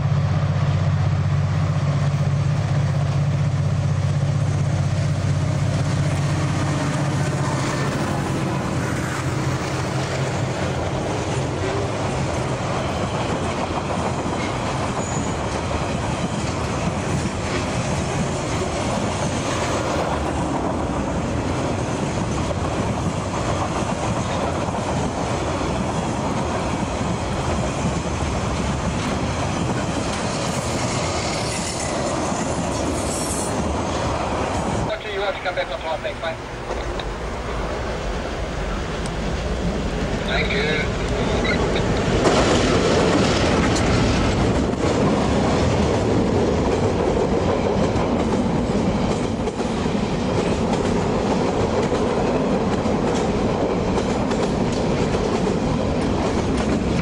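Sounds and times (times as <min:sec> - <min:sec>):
diesel locomotive engine drone: 0:00.0 - 0:57.0
train wheels clickety-clack: 0:00.7 - 0:35.0, 0:36.6 - 0:37.2, 0:38.8 - 0:57.0.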